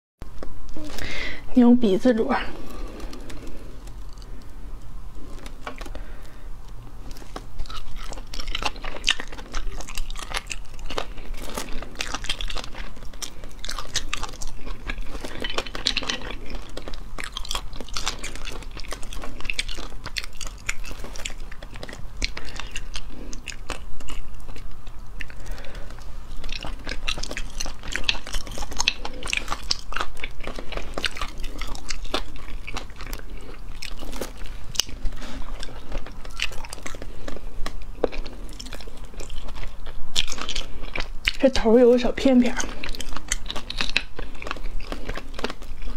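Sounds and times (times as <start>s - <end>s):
chewing: 1.9s - 45.9s.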